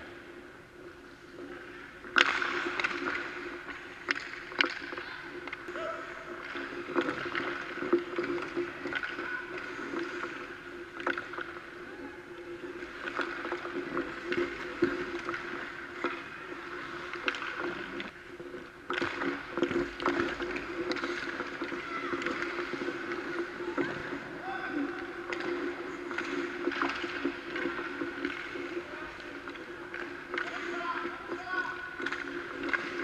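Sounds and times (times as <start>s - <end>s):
hockey sticks and pucks clacking: 0.0s - 33.0s
skate blades scraping ice: 0.0s - 33.0s.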